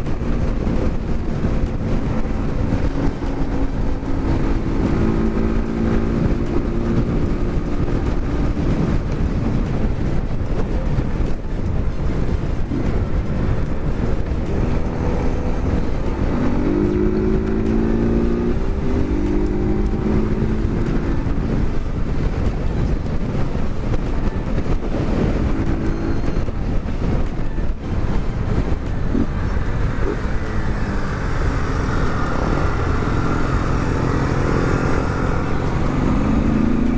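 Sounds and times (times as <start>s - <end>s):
motorcycle engine running: 0.0s - 36.9s
wind noise on microphone: 0.0s - 36.9s.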